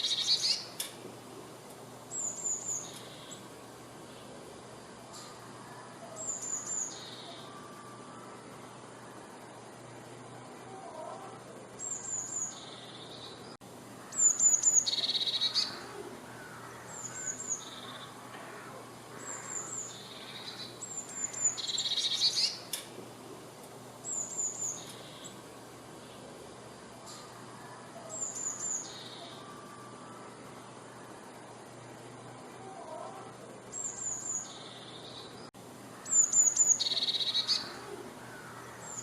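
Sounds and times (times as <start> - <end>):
bird singing: 0.0 - 0.9, 2.0 - 4.4, 5.0 - 22.9, 24.0 - 39.0.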